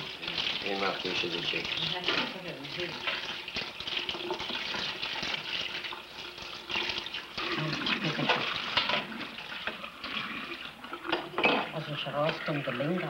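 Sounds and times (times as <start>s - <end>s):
tap water splashing into sink: 0.0s - 13.0s.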